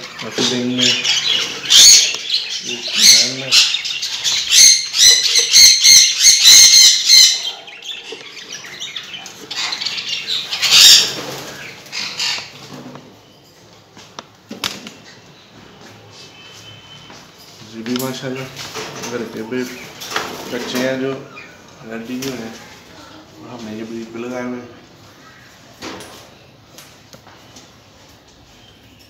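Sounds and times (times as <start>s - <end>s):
caged birds squawking harshly: 0.0s - 13.4s, 14.9s - 26.7s.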